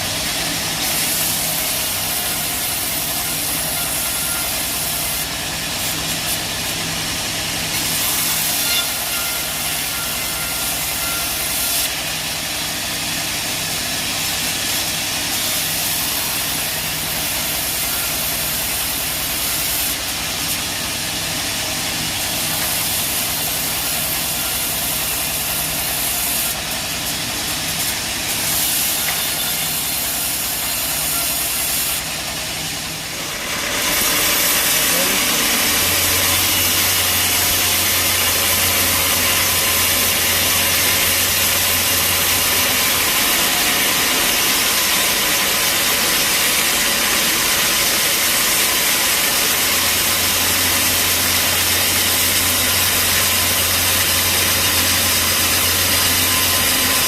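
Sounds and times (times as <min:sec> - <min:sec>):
sawmill engine running: 0:00.0 - 0:57.0
strong steady hiss: 0:00.0 - 0:57.0.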